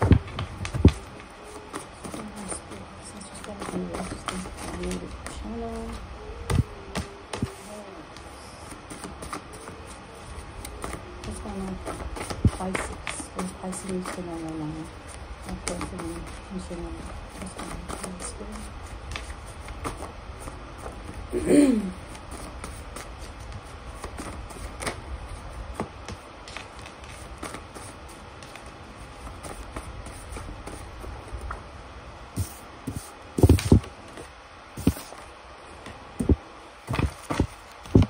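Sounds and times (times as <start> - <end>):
cards being shuffled: 0.0 - 21.3, 22.0 - 31.6, 32.4 - 38.0.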